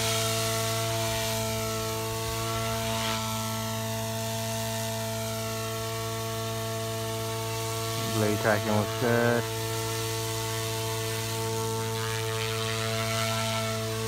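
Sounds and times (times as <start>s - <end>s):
rc helicopter buzzing drone: 0.0s - 14.0s.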